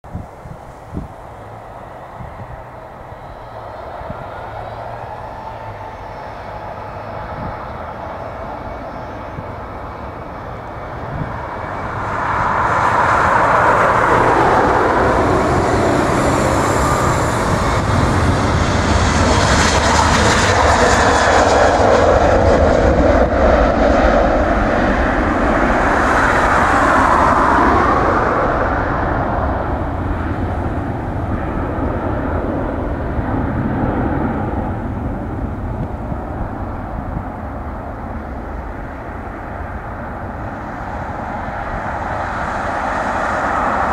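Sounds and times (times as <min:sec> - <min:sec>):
jet engines at takeoff: 0:00.1 - 0:43.9.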